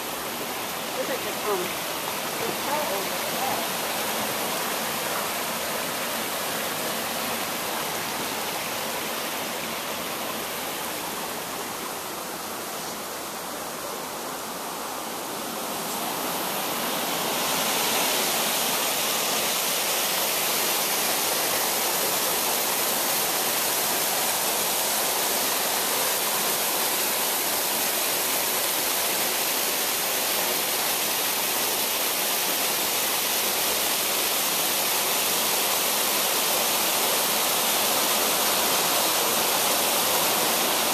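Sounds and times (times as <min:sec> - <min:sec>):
water rushing through rock slot: 0:00.0 - 0:40.9.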